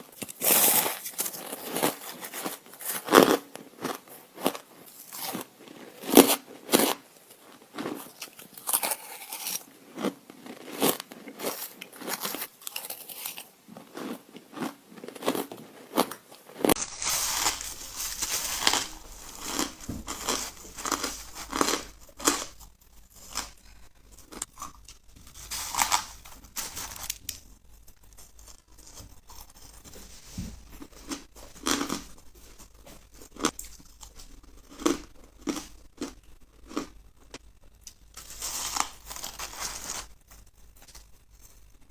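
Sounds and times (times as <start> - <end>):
ice crunching between teeth: 0.1 - 30.0, 30.8 - 41.6.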